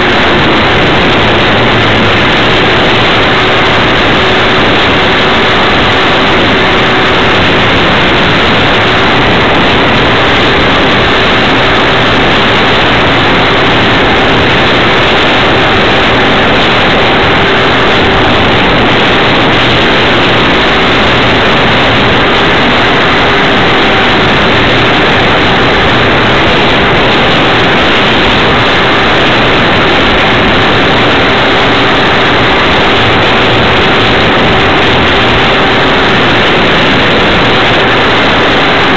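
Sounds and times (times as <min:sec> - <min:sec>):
air rushing past: 0:00.0 - 0:38.9
model plane motor and propeller: 0:00.0 - 0:38.9.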